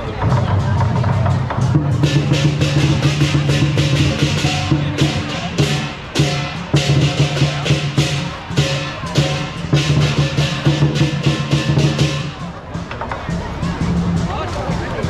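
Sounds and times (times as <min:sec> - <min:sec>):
drum beating: 0:00.0 - 0:15.0
rapid cymbal clashes: 0:00.0 - 0:15.0.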